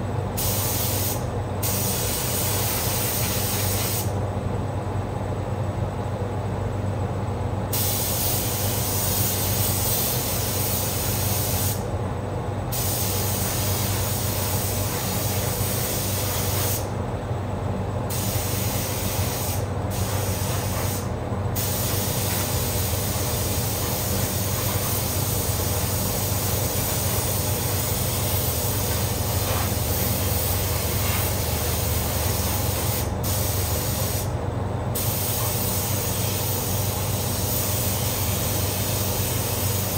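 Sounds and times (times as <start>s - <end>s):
fan drone: 0.0s - 39.9s
paint spray gun hissing: 0.4s - 4.1s, 7.7s - 11.8s, 12.7s - 16.9s, 18.1s - 34.3s, 35.0s - 39.9s.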